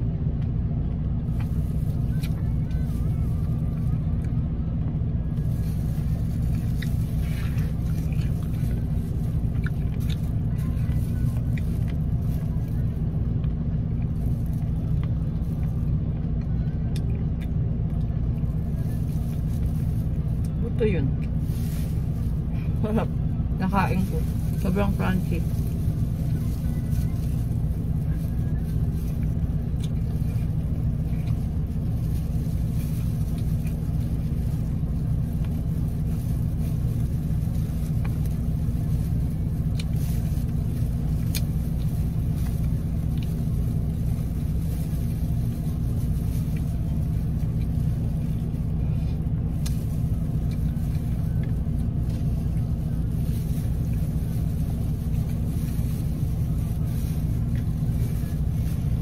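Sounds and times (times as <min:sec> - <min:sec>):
car engine idling: 0:00.0 - 0:59.0
fried chicken crackling: 0:05.2 - 0:59.0.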